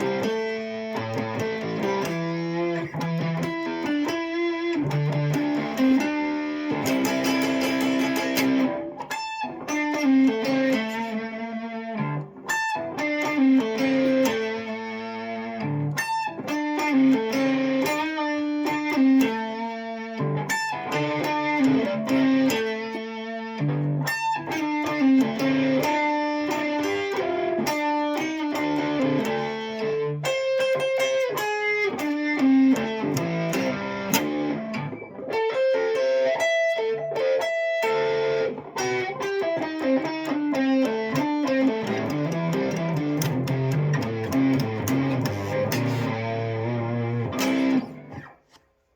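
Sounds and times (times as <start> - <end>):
plucked guitar notes: 0.0 - 48.6.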